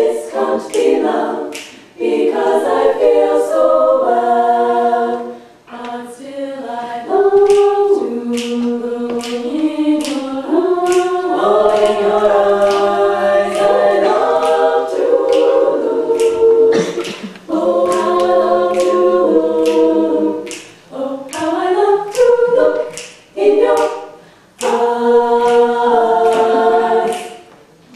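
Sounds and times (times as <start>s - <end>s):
women singing in harmony: 0.0s - 27.5s.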